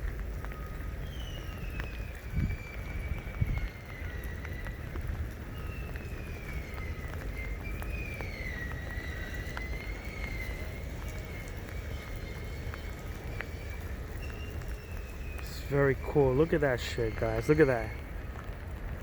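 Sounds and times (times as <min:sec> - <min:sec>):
rain: 0:00.0 - 0:19.0
wind rumbling on microphone: 0:00.0 - 0:19.0.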